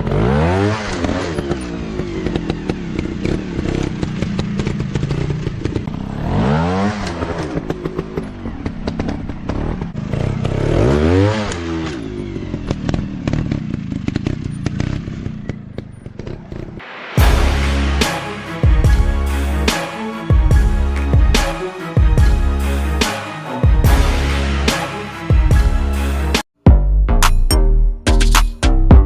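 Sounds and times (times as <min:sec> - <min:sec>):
dirt bike engine revving: 0:00.0 - 0:26.4.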